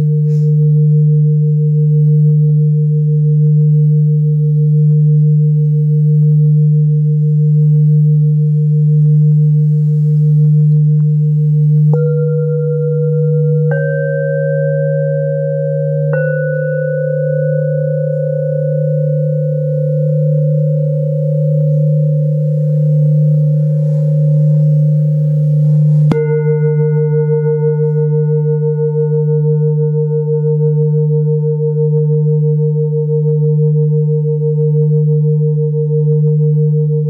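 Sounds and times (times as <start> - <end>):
mallet striking bowl: 0.0 - 33.9
deep steady hum: 0.0 - 37.0
singing bowls ringing: 0.0 - 37.0.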